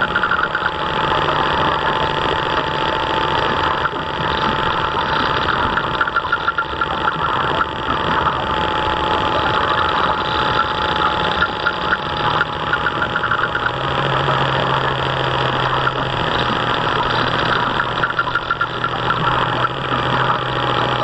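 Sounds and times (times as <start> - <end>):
low hum: 0.0 - 21.0
model boat drive running: 0.0 - 21.0.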